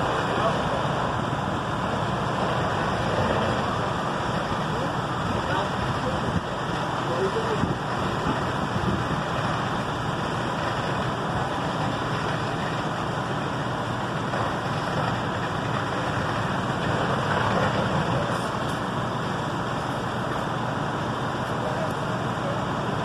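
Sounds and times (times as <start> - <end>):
fire hose water spraying: 0.0 - 23.0
heavy engine rumble: 0.0 - 23.0.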